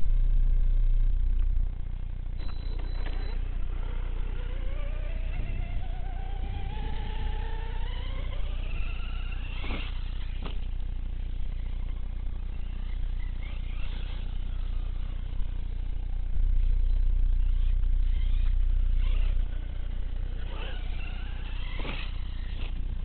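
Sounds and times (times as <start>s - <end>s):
electric motor whine: 0.0s - 23.0s
steady low rumble: 0.0s - 23.0s.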